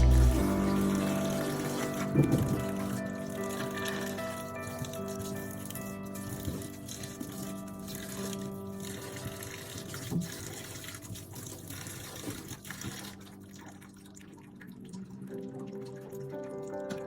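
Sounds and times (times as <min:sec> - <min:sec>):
soft background music: 0:00.0 - 0:17.0
tap water running into sink: 0:00.0 - 0:17.0.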